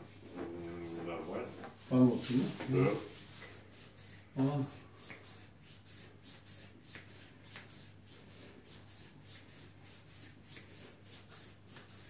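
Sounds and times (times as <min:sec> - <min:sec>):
hands rubbing a leg: 0:00.0 - 0:12.0.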